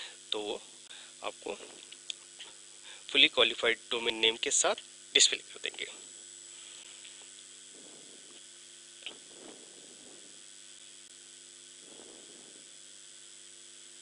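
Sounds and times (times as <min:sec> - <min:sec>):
low electrical hum: 0:00.0 - 0:14.0
steady hiss: 0:00.0 - 0:14.0.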